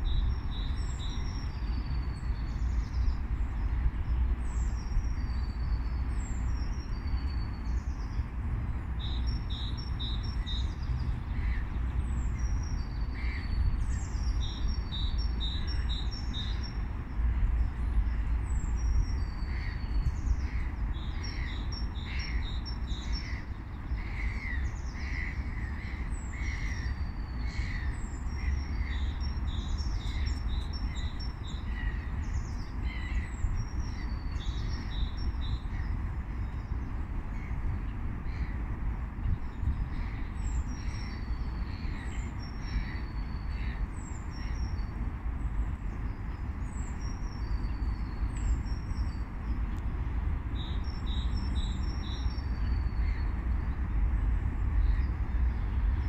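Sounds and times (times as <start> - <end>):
small birds chirping and singing: 0.0 - 17.0, 17.7 - 49.8, 50.4 - 56.0
steady low rumble: 0.0 - 56.0.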